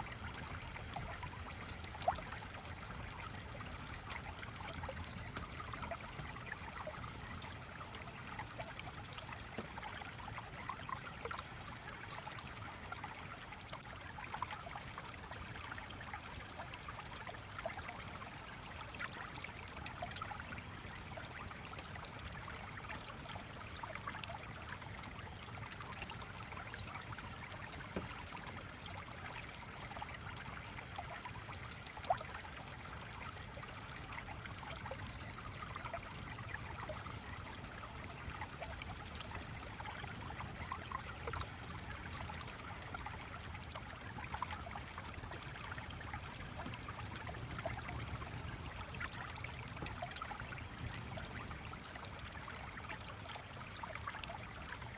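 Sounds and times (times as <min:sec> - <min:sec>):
stream trickling: 0:00.0 - 0:54.9.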